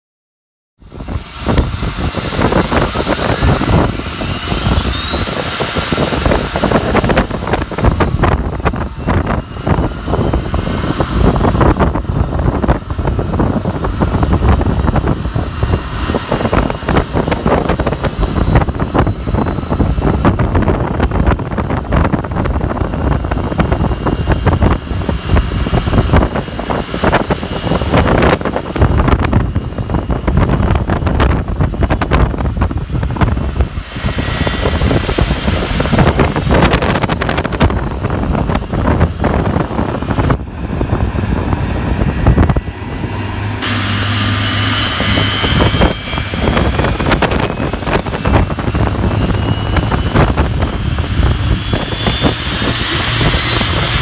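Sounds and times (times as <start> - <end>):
jet engine whine spooling up: 0.8 - 54.0
wind buffeting microphone: 0.8 - 54.0.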